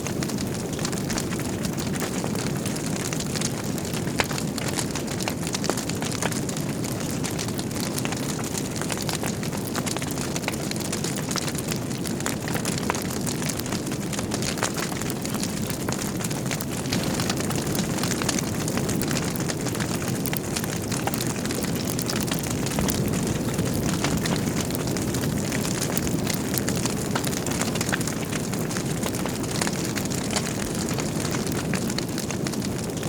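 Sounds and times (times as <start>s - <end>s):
logs crackling and snapping: 0.0s - 33.0s
loud pops from fire: 0.0s - 33.0s
low roar of flames: 0.0s - 33.0s.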